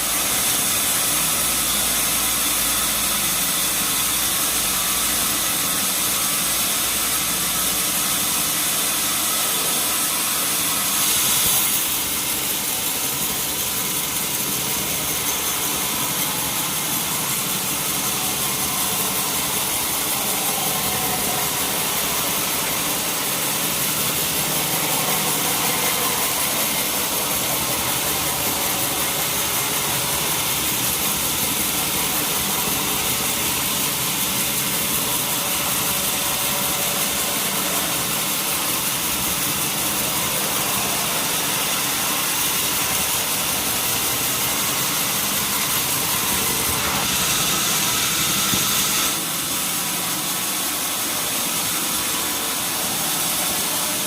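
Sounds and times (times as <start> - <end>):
saw cutting through log: 0.0 - 54.0
sawmill machinery running: 0.0 - 54.0.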